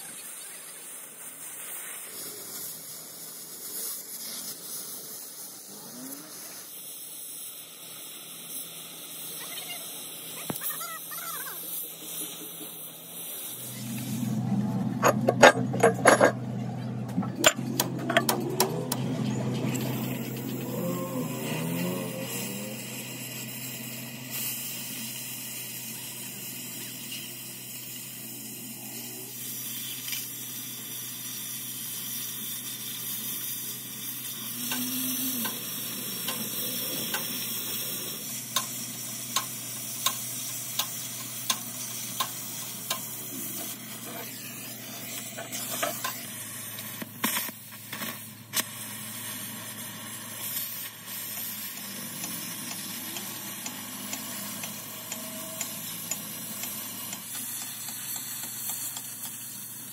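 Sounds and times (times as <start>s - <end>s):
cutting torch hissing and sizzling: 0.0s - 59.9s.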